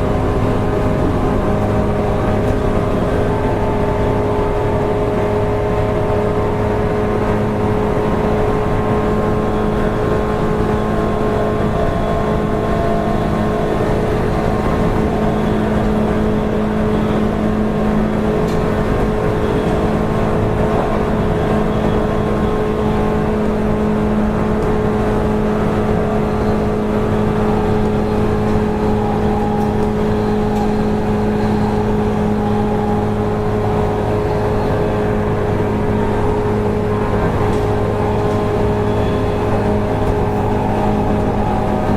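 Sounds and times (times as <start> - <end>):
electric train motor hum: 0.0 - 41.9
wheels rumbling on rail: 0.0 - 41.9.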